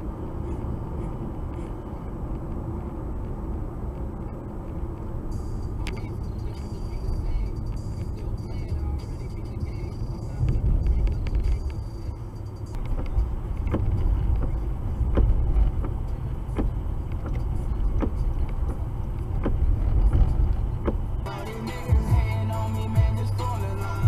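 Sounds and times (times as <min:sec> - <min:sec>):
car cabin road rumble: 0:00.0 - 0:24.0
windshield wipers sweeping: 0:00.0 - 0:24.0.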